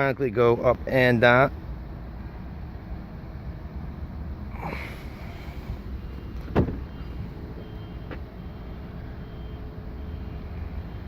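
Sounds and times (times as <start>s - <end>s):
car engine rumbling: 0.7s - 11.0s.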